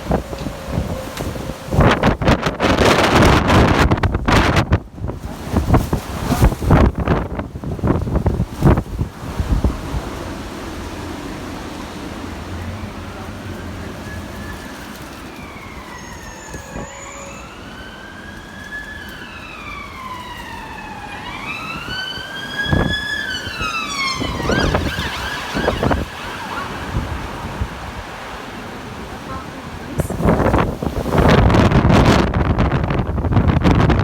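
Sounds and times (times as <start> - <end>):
emergency vehicle siren wailing: 0.0 - 4.8, 11.2 - 33.8
wind noise: 0.0 - 17.7, 19.0 - 34.0
wind gusts buffeting microphone: 0.0 - 34.0.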